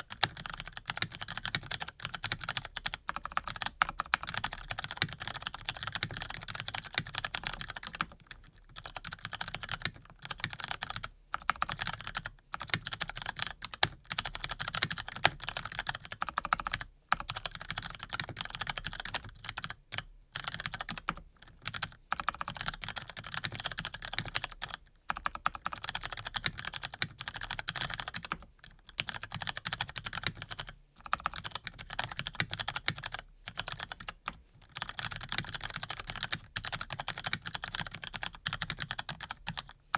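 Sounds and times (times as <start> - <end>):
fast typing on mechanical keyboard: 0.0 - 39.8.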